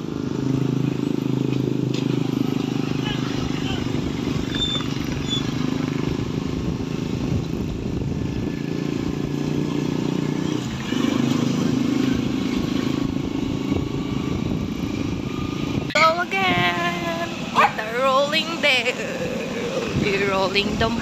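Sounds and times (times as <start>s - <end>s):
air rush and road noise: 0.0s - 21.0s
small motorcycle engine running: 0.0s - 21.0s.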